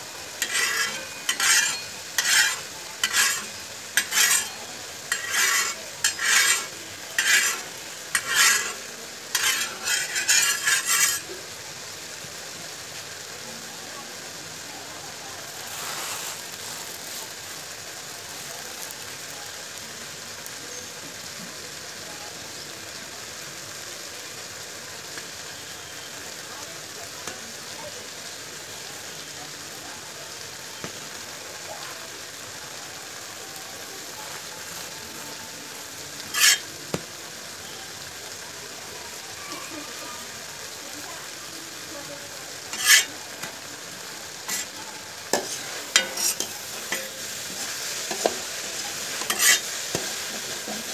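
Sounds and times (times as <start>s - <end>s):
bun sizzling in oil: 0.0s - 50.9s.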